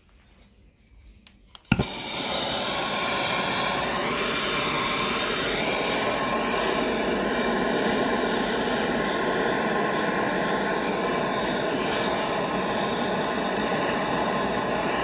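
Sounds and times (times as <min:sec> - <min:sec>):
gas torch ignition click: 0:01.5 - 0:15.0
torch flame hissing: 0:01.7 - 0:15.0.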